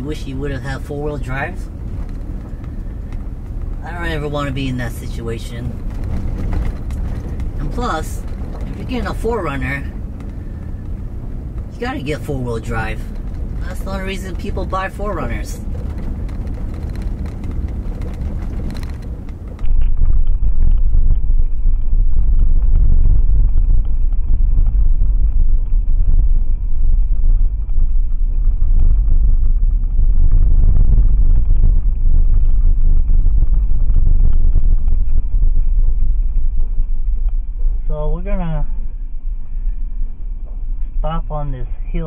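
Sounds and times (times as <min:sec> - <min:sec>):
car road rumble: 0:00.0 - 0:42.0.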